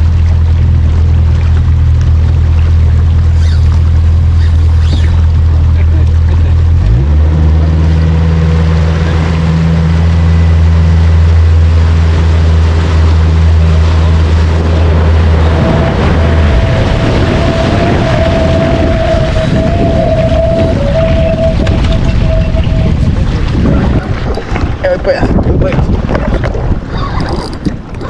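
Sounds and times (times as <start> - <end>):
outboard motor running: 0.0 - 28.0
rushing water: 0.0 - 28.0
wind noise: 0.0 - 28.0.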